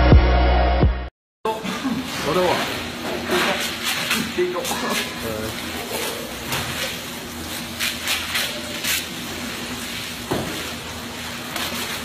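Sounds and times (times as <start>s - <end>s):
background hum of processing room: 1.5s - 12.0s.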